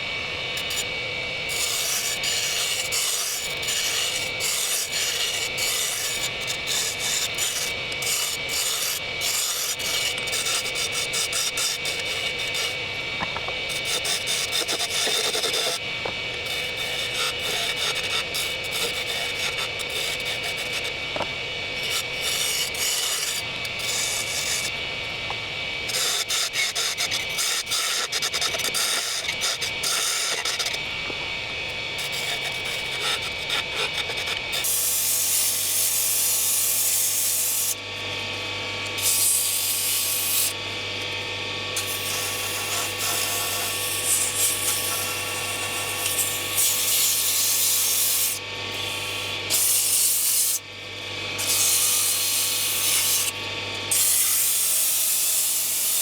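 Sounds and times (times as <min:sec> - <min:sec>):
wood lathe humming: 0:00.0 - 0:56.0.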